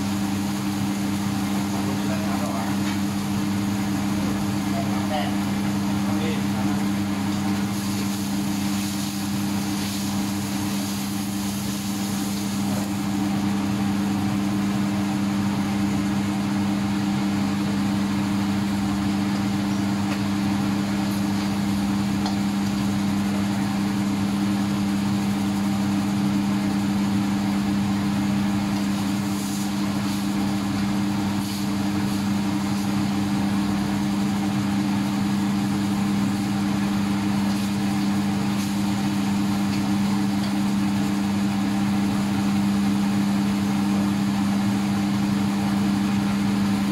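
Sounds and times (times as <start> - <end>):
broth simmering in a wok: 0.0 - 46.9
kitchen machinery humming: 0.0 - 46.9.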